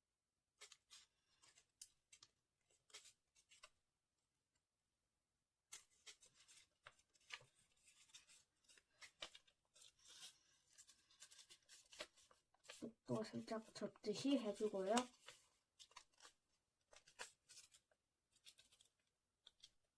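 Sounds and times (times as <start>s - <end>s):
paper rustling and crinkling: 0.6s - 3.8s, 5.7s - 19.9s.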